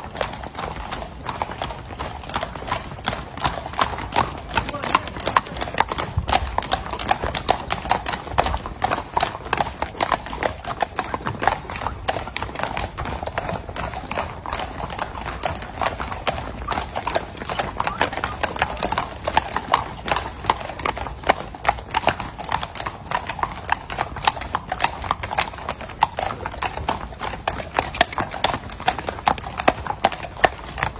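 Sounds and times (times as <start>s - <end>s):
horse hooves clip-clopping: 0.0s - 30.9s.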